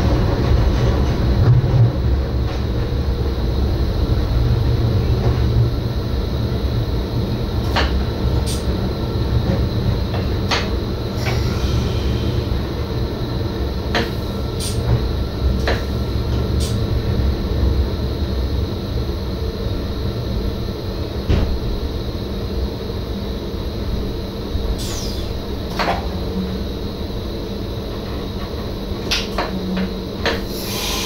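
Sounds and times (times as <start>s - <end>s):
train cab rumble: 0.0s - 31.0s.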